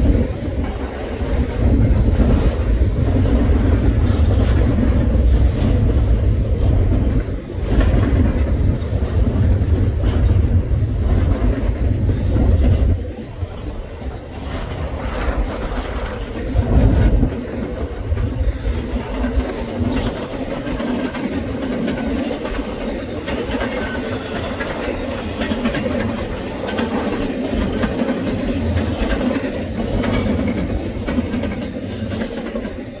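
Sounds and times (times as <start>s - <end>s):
clicking over rail joints: 0.0s - 33.0s
train wheels rumbling on rail: 0.0s - 33.0s.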